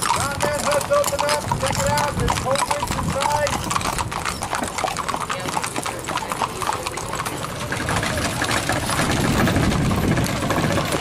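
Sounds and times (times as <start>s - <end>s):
horse hooves on asphalt: 0.0s - 11.0s.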